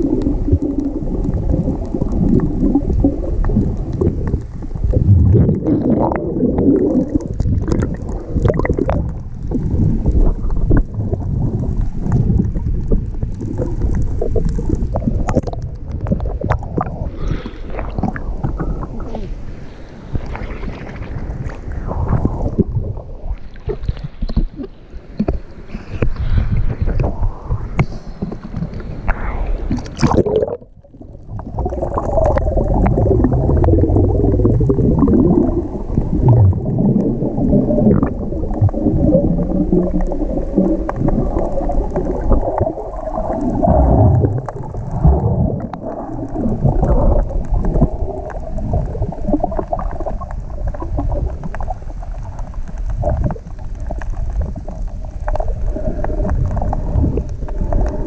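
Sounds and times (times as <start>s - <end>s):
rough sea water churning: 0.0s - 58.0s.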